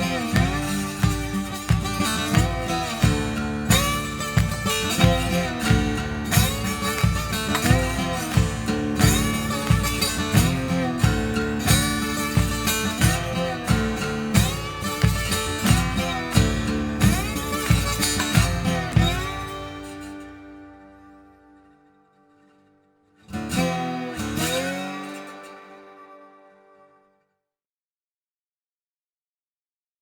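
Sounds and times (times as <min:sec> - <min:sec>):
guitar-led background music: 0:00.0 - 0:22.6, 0:23.3 - 0:26.8.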